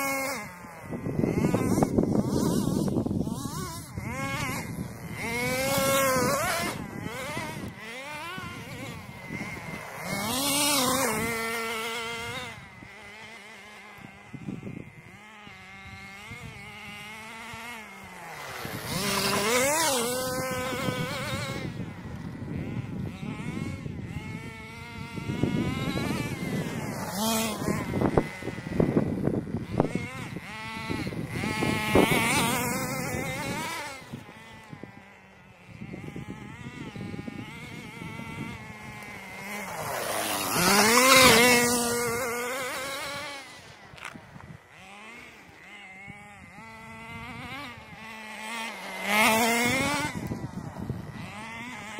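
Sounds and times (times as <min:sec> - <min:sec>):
rc car engine buzzing: 0:00.0 - 0:51.9.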